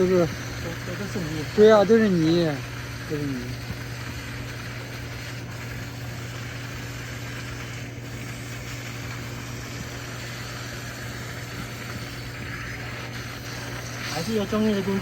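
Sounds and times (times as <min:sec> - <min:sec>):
pressure washer pump humming: 0:00.0 - 0:15.0
water spray hissing: 0:00.0 - 0:15.0.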